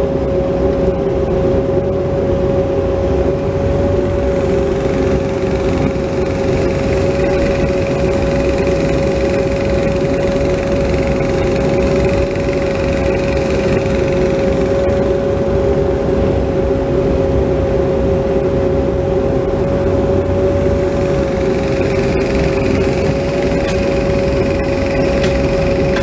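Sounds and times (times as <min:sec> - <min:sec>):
high-pitched whine: 0:00.0 - 0:26.0
excavator diesel engine running: 0:03.2 - 0:17.3, 0:18.9 - 0:26.0.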